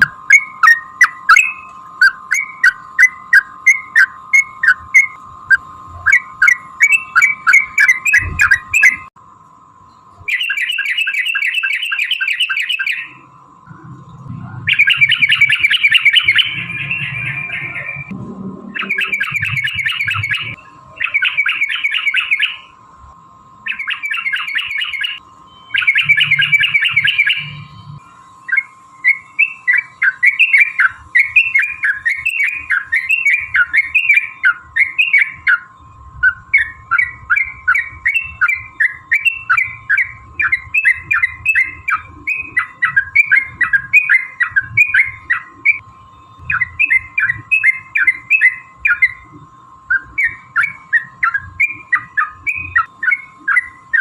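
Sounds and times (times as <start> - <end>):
bulbul singing: 0.0 - 9.2, 9.8 - 22.8, 23.6 - 54.0
faint steady hum: 0.0 - 54.0.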